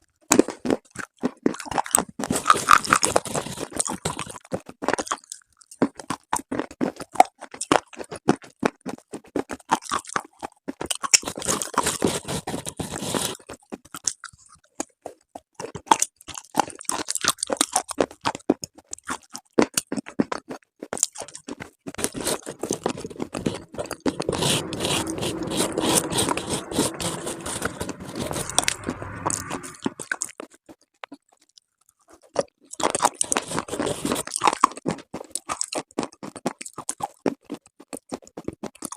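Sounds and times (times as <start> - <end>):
crunchy chewing: 0.2 - 26.7, 31.3 - 38.9.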